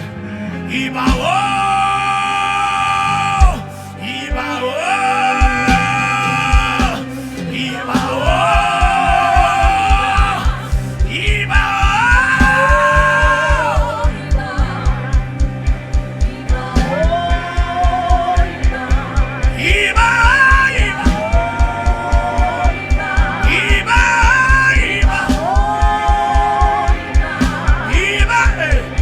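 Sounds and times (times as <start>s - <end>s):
person singing long notes: 0.6s - 29.0s
bass drum beat: 1.1s - 1.4s, 3.4s - 3.6s, 5.4s - 7.2s, 8.0s - 29.0s.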